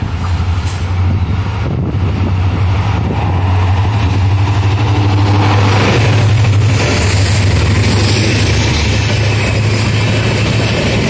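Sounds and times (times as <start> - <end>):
locomotive engine drone: 0.0 - 11.0
wheels on rails: 0.0 - 11.0.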